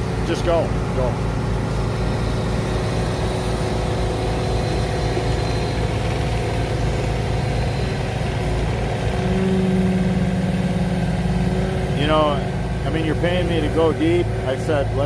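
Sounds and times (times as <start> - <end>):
excavator engine running: 0.0 - 15.0
steady hum: 0.0 - 15.0.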